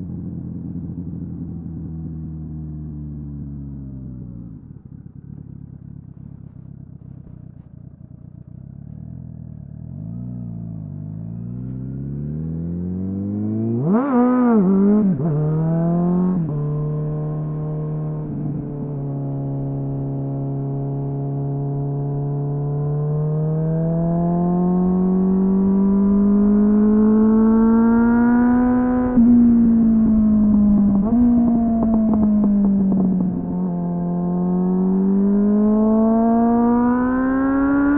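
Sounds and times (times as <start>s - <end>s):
motorcycle engine revving: 0.7s - 37.9s.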